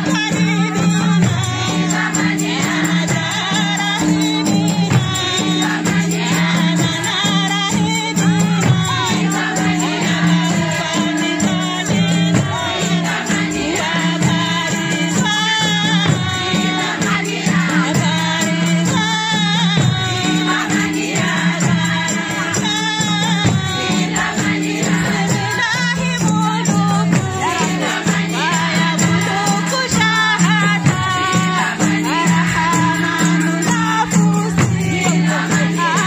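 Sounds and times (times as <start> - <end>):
frame drums beaten: 0.0 - 36.0
women singing in chorus: 0.0 - 36.0.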